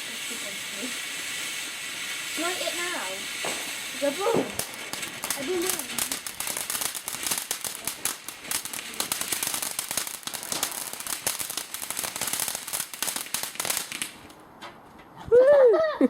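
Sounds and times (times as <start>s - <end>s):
firework crackling: 0.0s - 14.5s.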